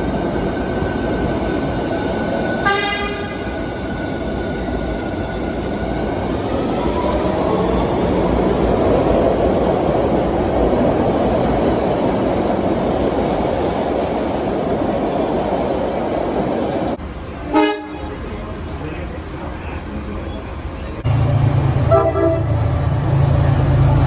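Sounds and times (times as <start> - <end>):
train wheels on rails: 0.0 - 17.5, 18.2 - 24.0.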